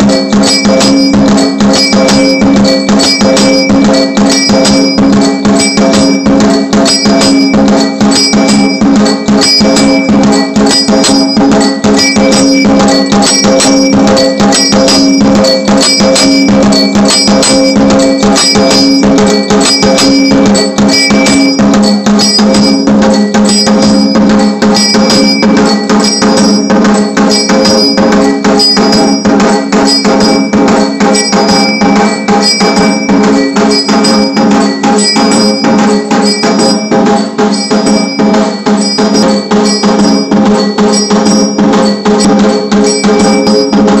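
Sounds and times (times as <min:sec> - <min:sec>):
mechanical bells and percussion: 0:00.0 - 0:44.0.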